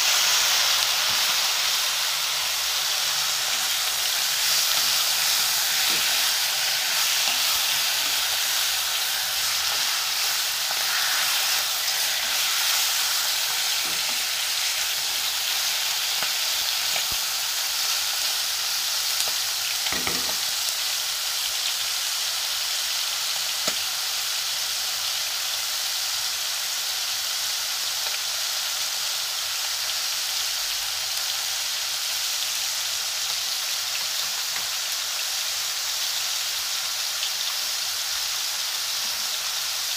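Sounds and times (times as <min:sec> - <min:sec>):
vegetables sizzling in hot oil: 0:00.0 - 0:39.9.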